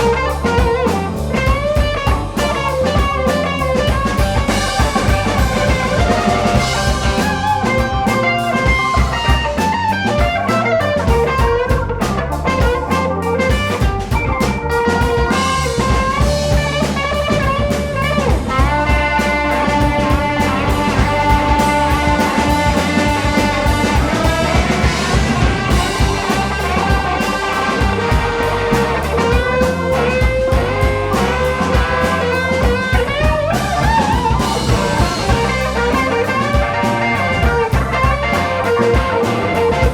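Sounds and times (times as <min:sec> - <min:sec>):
bass: 0:00.0 - 0:39.9
drum kit: 0:00.0 - 0:39.9
electric guitar lines: 0:00.0 - 0:39.9.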